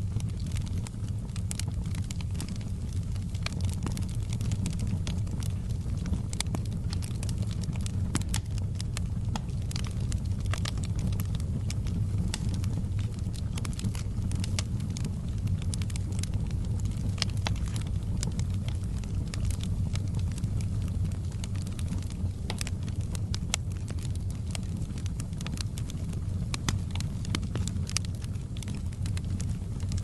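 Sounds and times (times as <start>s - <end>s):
steady low rumble: 0.0s - 30.0s
wood fire crackling: 0.0s - 30.0s.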